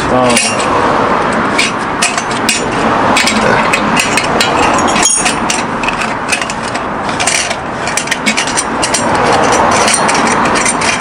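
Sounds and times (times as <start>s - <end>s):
spanner clicking on metal fittings: 1.3s - 11.0s.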